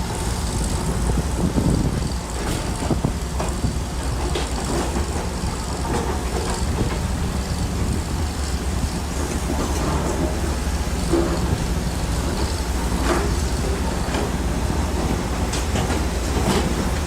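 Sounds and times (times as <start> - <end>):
bulldozer diesel engine running: 0.0 - 17.0
steel tracks clanking: 0.0 - 17.0.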